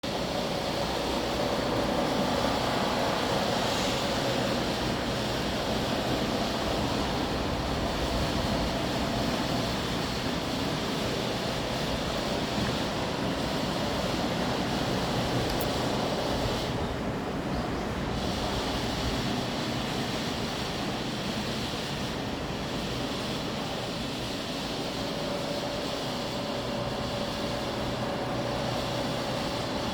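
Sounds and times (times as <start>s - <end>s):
strong stormy wind rushing: 0.0s - 29.9s.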